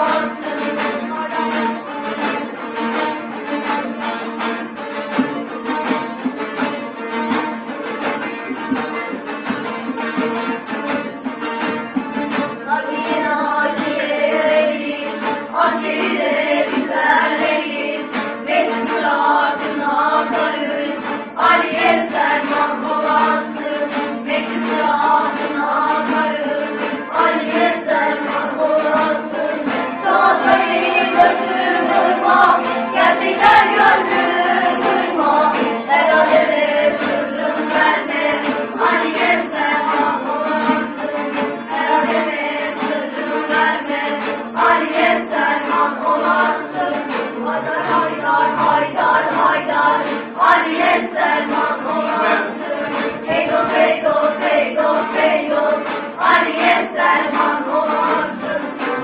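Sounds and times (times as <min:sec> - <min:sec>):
group of voices singing: 0:00.0 - 0:04.0, 0:12.0 - 0:59.0
lutes playing folk tune: 0:00.0 - 0:59.0.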